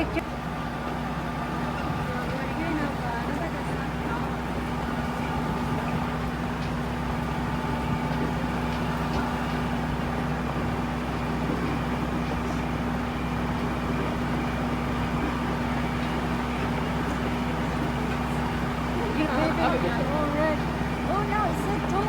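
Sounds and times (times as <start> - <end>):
tractor engine humming: 0.0 - 22.0.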